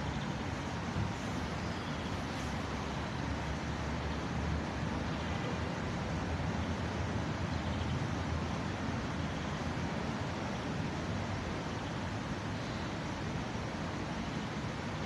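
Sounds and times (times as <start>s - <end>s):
city traffic road noise: 0.0s - 15.0s.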